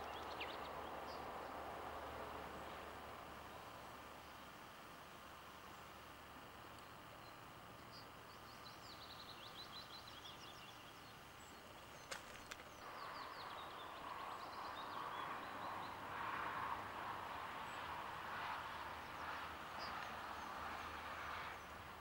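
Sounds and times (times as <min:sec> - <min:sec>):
songbird singing: 0:00.0 - 0:04.8, 0:06.7 - 0:16.1, 0:17.1 - 0:22.0
steady outdoor hiss: 0:00.0 - 0:22.0.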